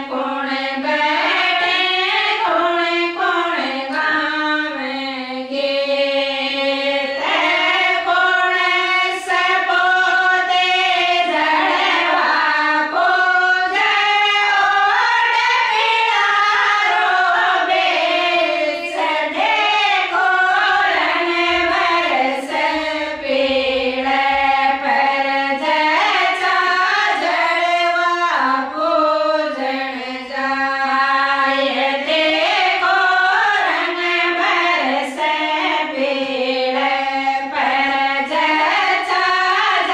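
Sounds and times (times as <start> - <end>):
women singing folk song: 0.0 - 39.9.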